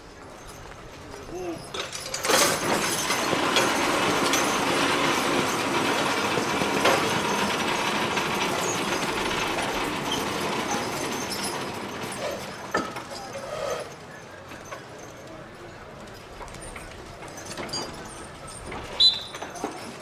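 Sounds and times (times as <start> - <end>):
sled scraping over dirt: 0.0 - 20.0.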